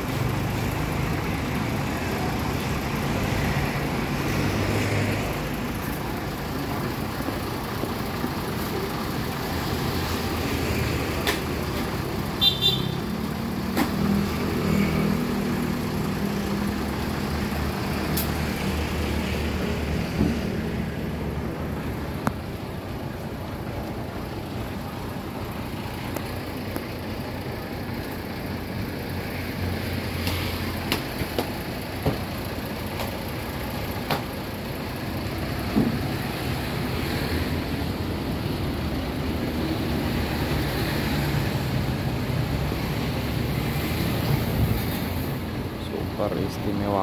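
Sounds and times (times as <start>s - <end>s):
truck engine humming: 0.0s - 47.0s.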